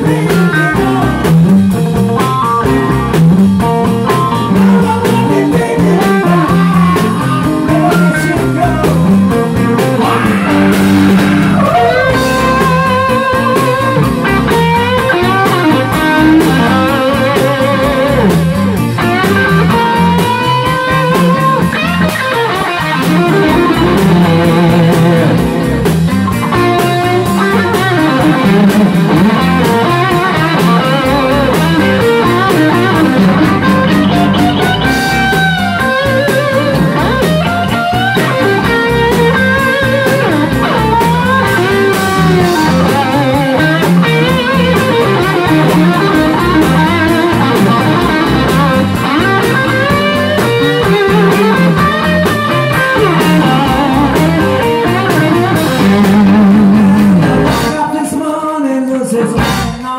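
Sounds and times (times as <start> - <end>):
electric guitar lead line: 0.0 - 59.9
rock band playing live: 0.0 - 59.9.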